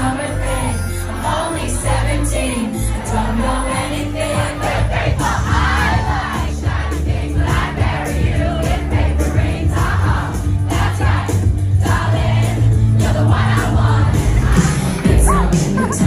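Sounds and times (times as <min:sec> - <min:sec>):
crowd singing along: 0:00.0 - 0:16.0
loud pop music with bass beat: 0:00.0 - 0:16.0.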